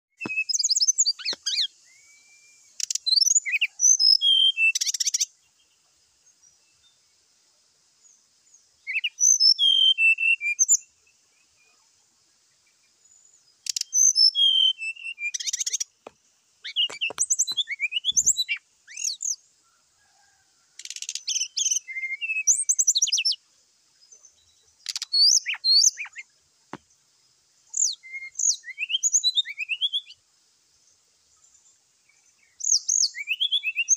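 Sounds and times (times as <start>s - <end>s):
bird twittering song: 0.1s - 7.2s, 7.9s - 19.5s, 20.1s - 33.9s.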